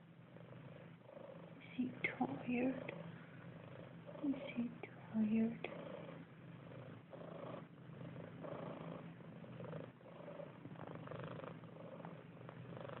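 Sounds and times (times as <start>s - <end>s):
pet snoring softly: 0.2s - 13.0s.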